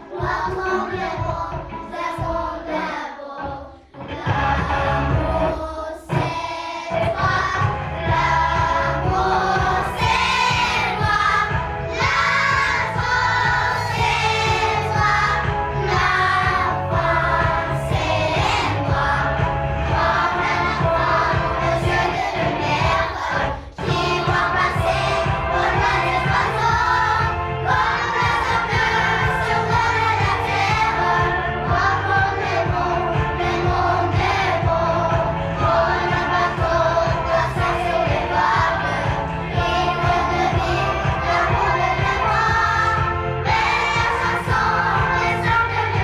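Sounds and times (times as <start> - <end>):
children singing together: 0.0 - 46.0
backing track with steady beat: 3.8 - 46.0.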